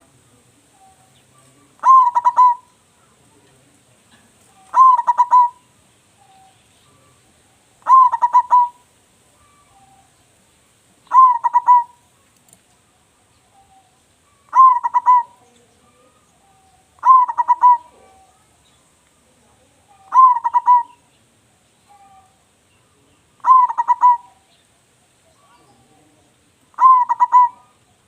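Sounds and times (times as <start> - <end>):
dove cooing song: 0.0 - 3.5, 4.2 - 10.3, 11.0 - 18.5, 19.2 - 21.2, 21.8 - 28.0.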